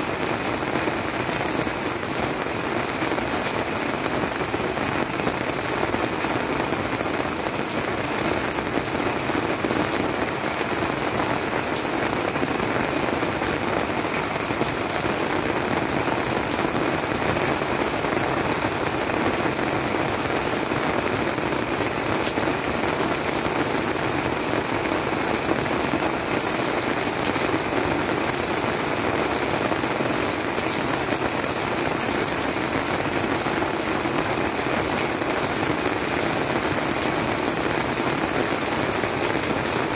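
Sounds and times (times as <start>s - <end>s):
rain falling on leafy plants: 0.0s - 39.9s.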